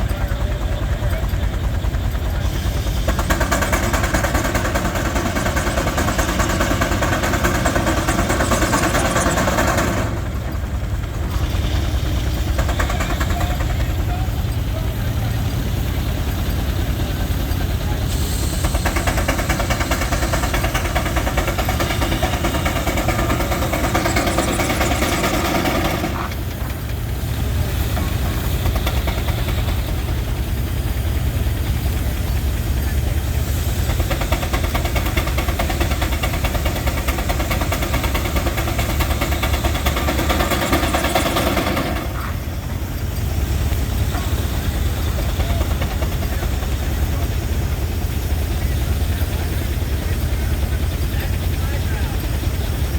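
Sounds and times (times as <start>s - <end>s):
sawmill running: 0.0s - 52.9s.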